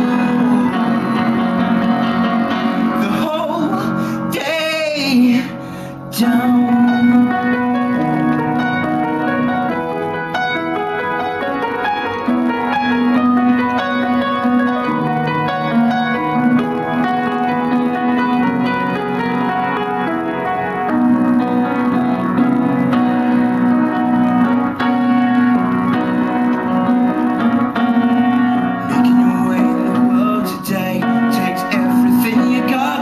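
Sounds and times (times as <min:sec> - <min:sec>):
solo grand piano chords and melody: 0:00.0 - 0:33.0.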